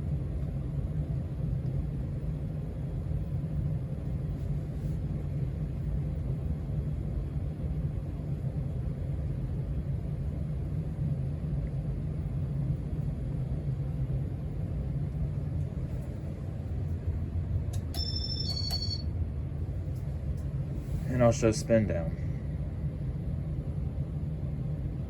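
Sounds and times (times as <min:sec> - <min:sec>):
ceiling fan rumble: 0:00.0 - 0:25.0.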